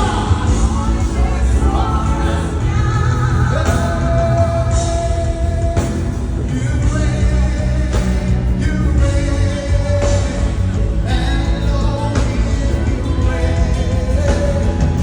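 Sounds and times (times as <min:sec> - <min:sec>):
band with heavy bass: 0:00.0 - 0:15.0.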